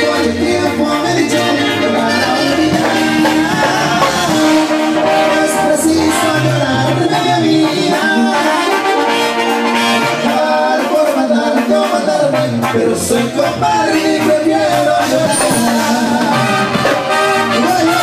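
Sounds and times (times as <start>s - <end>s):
brass-like lead line: 0.0s - 18.0s
live latin band music: 0.0s - 18.0s.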